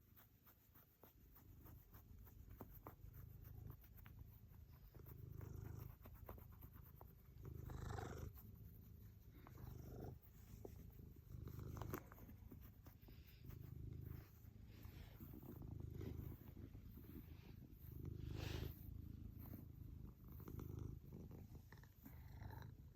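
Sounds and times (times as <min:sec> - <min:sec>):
cat purring faintly: 0:00.0 - 0:22.9.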